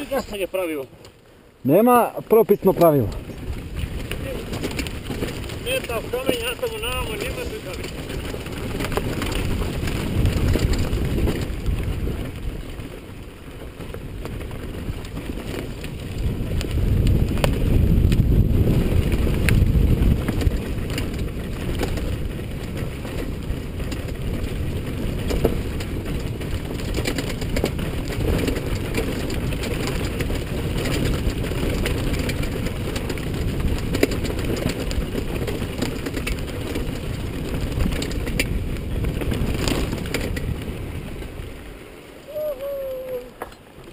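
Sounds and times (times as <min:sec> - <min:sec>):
wind buffeting microphone: 0:02.8 - 0:43.9.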